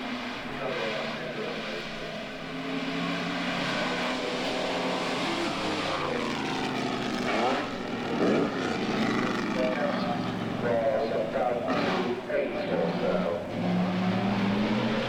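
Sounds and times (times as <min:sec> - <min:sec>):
racing car engines at speed: 0:00.0 - 0:15.0.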